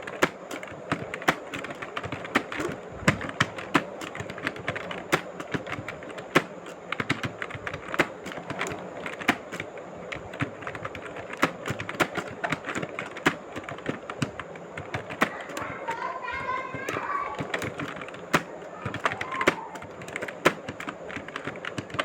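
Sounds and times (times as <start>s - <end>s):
typing on a keyboard: 0.0s - 22.0s.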